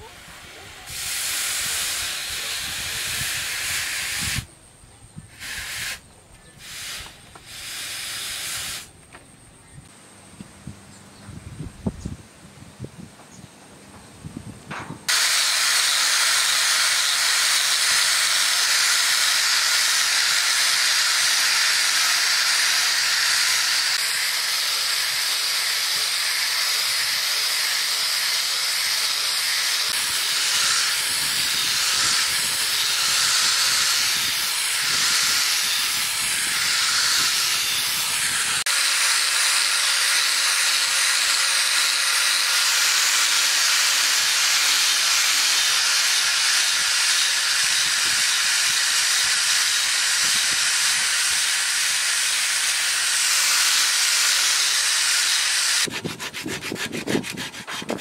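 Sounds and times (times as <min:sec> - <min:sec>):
angle grinder sanding wood: 0:00.0 - 0:04.5, 0:05.3 - 0:08.9, 0:15.1 - 0:58.0.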